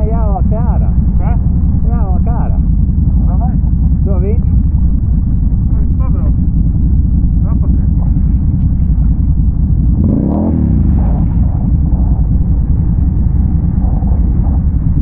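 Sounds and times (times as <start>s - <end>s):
quad bike engine idling and revving: 0.0s - 15.0s.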